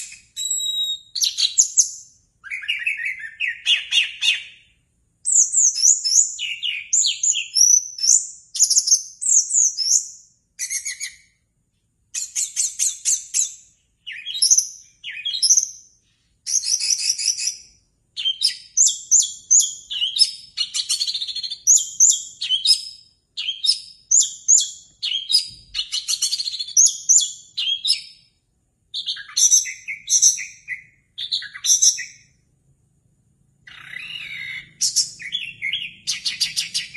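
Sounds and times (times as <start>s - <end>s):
thrush singing whistled phrases: 0.0s - 11.3s, 12.2s - 15.8s, 16.4s - 28.2s, 29.0s - 32.3s, 33.7s - 36.9s.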